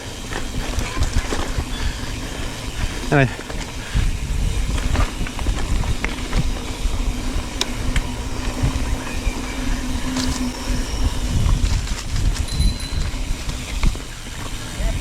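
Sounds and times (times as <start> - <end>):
bike rolling rattle: 0.0 - 15.0
wind rumble on microphone: 0.0 - 15.0.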